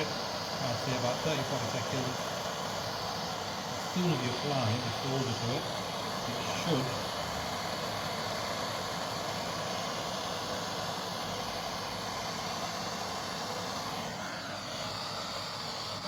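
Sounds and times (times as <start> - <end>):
blowtorch flame hissing: 0.0 - 16.0.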